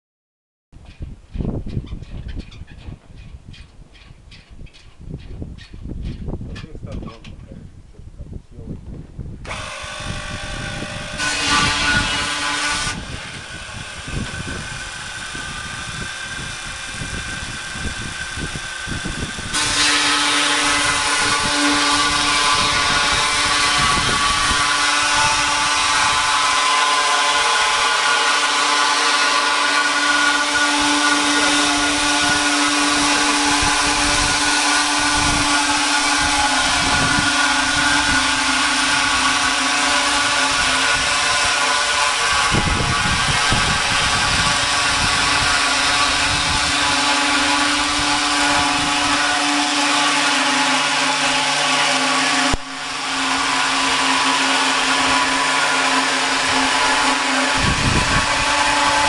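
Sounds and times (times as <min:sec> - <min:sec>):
chain saw cutting a log: 0:09.4 - 0:59.0.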